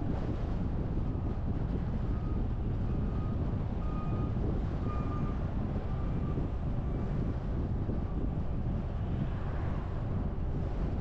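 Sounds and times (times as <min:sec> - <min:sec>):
car wind and road rumble: 0:00.0 - 0:11.0.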